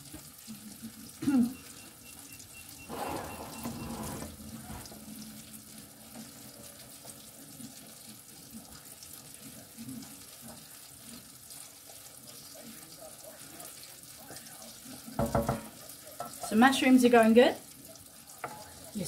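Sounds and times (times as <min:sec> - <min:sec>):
mushrooms sizzling in a frying pan: 0:00.0 - 0:19.0.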